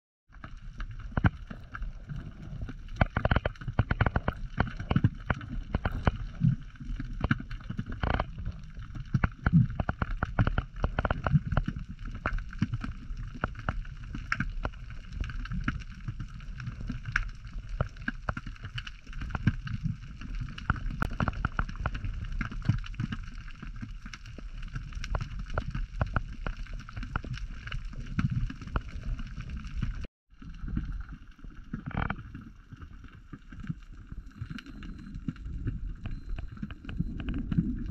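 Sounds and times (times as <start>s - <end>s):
underwater rumble of moving water: 0.3s - 37.9s
sharp underwater clicks and knocks: 1.0s - 30.0s, 31.7s - 33.7s, 35.6s - 37.9s.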